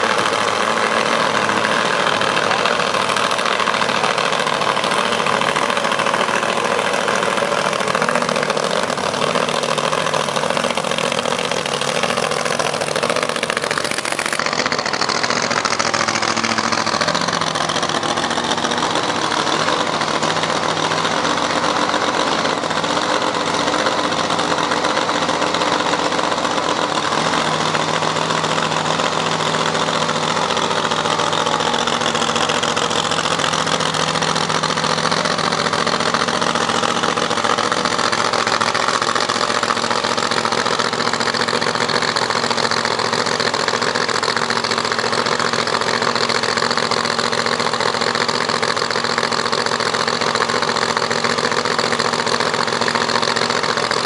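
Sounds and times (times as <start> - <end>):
supercharged engine idling: 0.0 - 54.0.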